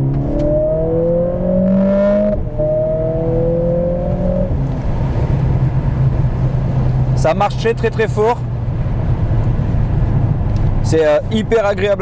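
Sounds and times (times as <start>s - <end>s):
car engine accelerating hard: 0.0s - 11.3s.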